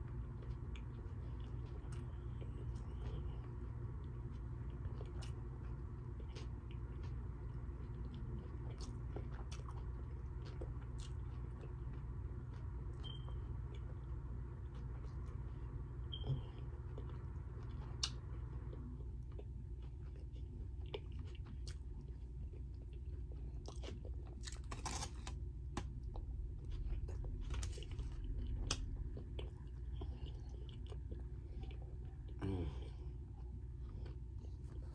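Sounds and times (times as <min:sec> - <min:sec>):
person chewing crunchy food: 0:00.0 - 0:34.9
steady low hum: 0:00.0 - 0:34.9.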